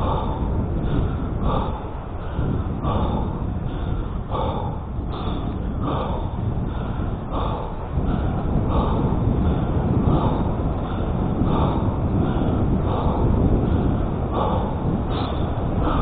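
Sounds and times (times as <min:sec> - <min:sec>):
person breathing hard: 0:00.0 - 0:16.0
wind on microphone: 0:00.0 - 0:16.0.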